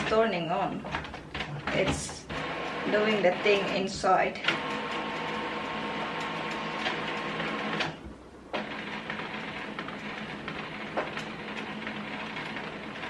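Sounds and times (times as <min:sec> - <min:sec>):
printer mechanical whir: 0:01.4 - 0:13.0.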